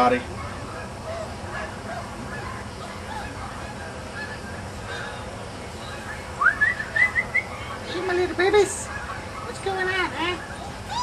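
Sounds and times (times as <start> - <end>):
steady background noise: 0.0 - 11.0
puppies whimpering and squeaking: 0.3 - 11.0.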